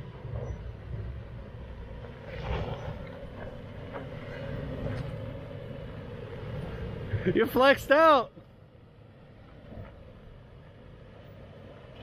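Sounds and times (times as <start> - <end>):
truck engine running low: 0.0 - 12.0.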